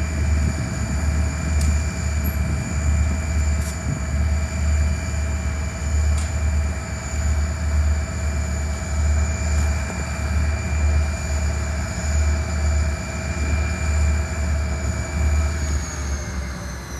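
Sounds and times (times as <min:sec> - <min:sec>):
train high whining tones: 0:00.0 - 0:16.9
train low rumble: 0:00.0 - 0:16.9.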